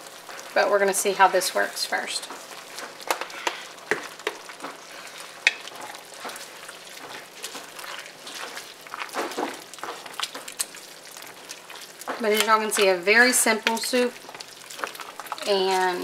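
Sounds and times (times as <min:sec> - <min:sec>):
soup simmering sizzle: 0:00.0 - 0:16.0
wooden spoon scraping a pot: 0:02.1 - 0:16.0.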